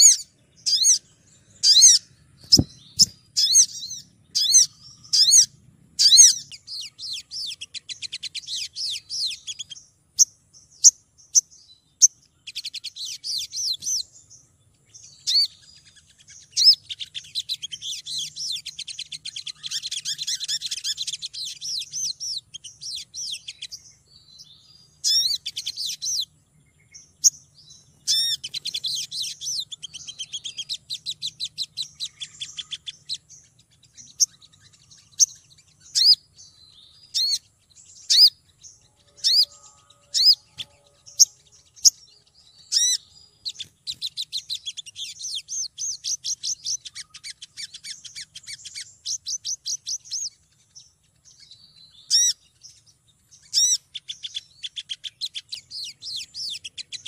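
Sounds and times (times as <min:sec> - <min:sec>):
sunbird calling: 0:00.0 - 0:57.0.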